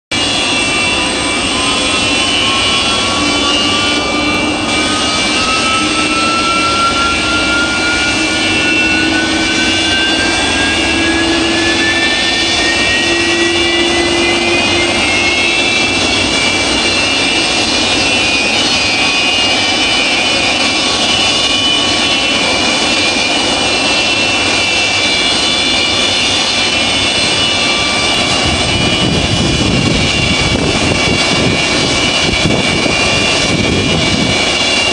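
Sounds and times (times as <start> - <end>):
high engine whines: 0.1 - 34.9
jet engines running: 0.1 - 34.9.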